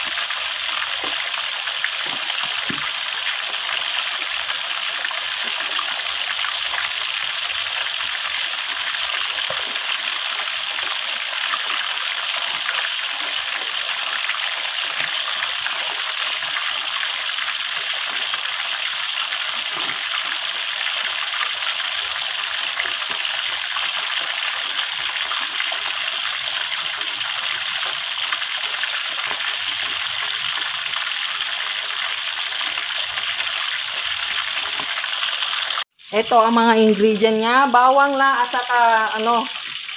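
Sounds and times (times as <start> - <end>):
fish deep-frying in bubbling oil: 0.0 - 39.9.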